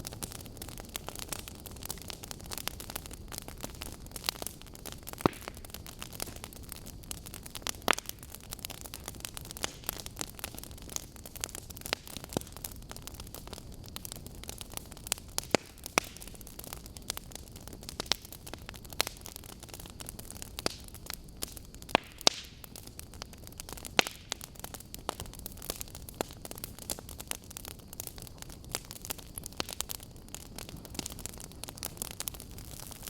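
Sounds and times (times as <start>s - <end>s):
burning logs crackling and popping: 0.0s - 33.0s
fire hissing: 0.0s - 33.0s.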